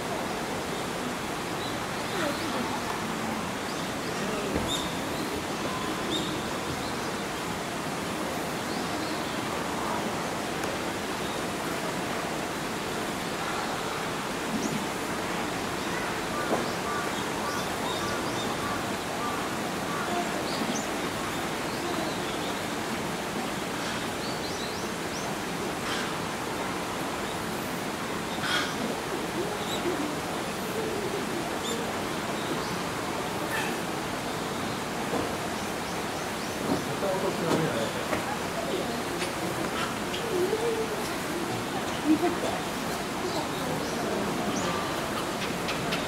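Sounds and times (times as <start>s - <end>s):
running water: 0.0s - 46.0s.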